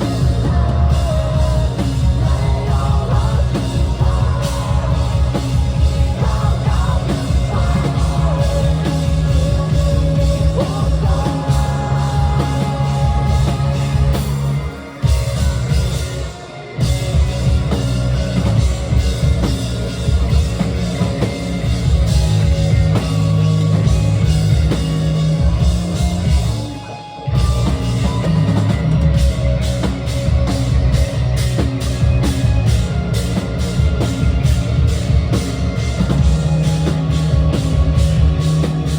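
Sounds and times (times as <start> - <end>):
rock music with drums and guitar: 0.0 - 38.9.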